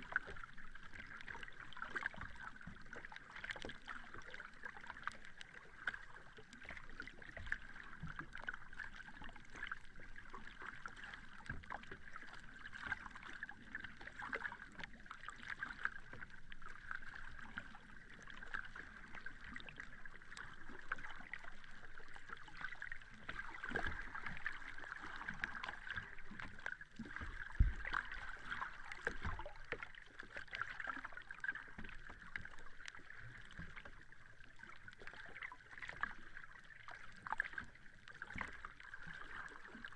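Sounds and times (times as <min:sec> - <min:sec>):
sea water sloshing: 0:00.0 - 0:39.9.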